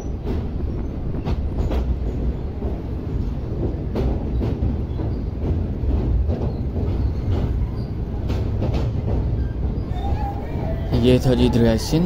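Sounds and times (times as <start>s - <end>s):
train rumble: 0.0s - 12.0s
wheels clacking over rail joints: 0.0s - 12.0s.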